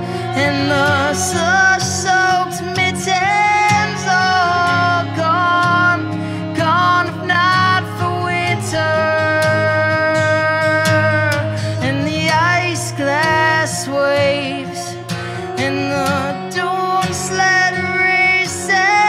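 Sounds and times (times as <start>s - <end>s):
acoustic guitar: 0.0s - 19.0s
electric guitar: 0.0s - 19.0s
person singing wordless melody: 0.0s - 19.0s
violin: 0.0s - 19.0s.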